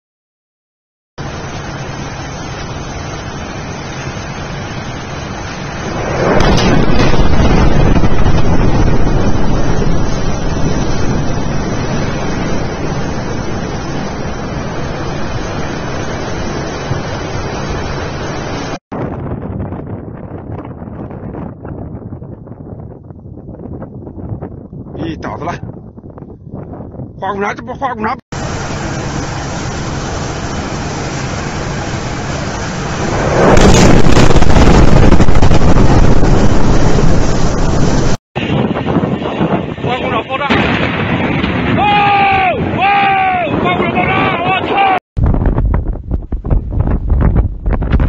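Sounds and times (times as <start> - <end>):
low rushing rumble: 1.2 - 27.3, 28.4 - 48.0
wind noise: 1.2 - 48.0.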